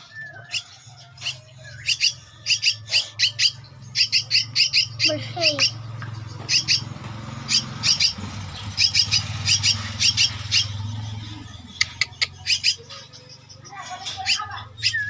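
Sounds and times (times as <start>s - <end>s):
chicks giving harsh begging calls: 0.0s - 15.0s.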